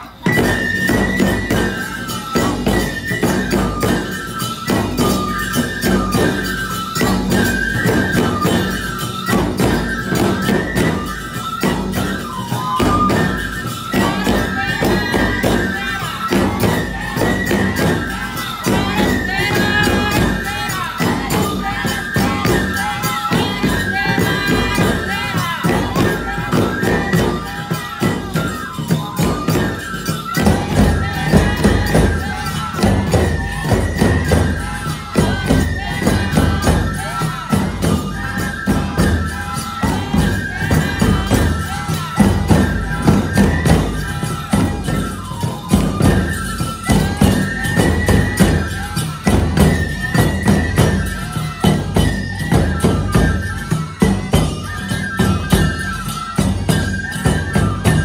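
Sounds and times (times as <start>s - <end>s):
bamboo flutes melody: 0.0s - 58.0s
jingling hand cymbals: 0.0s - 58.0s
taiko drums: 0.0s - 58.0s.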